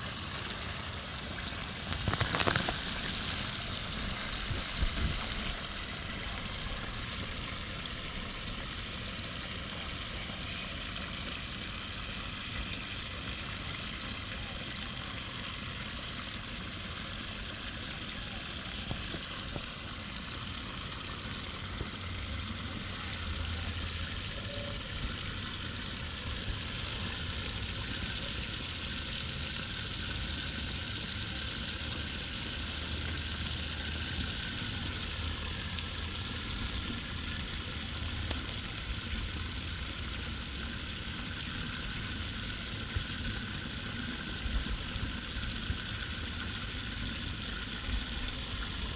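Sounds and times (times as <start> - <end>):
water rushing through a drain: 0.0 - 48.9.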